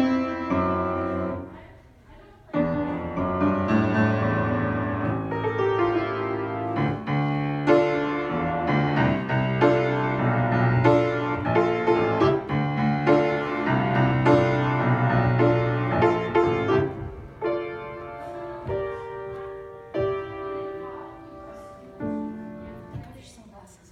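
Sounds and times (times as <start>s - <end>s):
grand piano playing: 0.0s - 1.6s, 2.5s - 23.3s.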